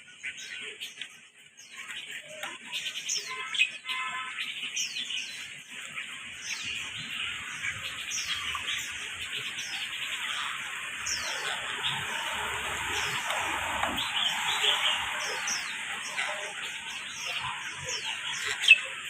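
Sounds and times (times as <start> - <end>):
parrots chattering and chirping: 0.0 - 19.0.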